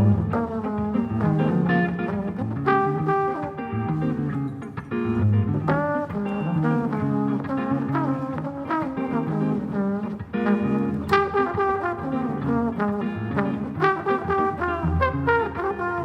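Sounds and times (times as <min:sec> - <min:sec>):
double bass: 0:00.0 - 0:04.5, 0:05.1 - 0:16.0
guitar: 0:00.0 - 0:16.0
trombone: 0:00.0 - 0:16.0.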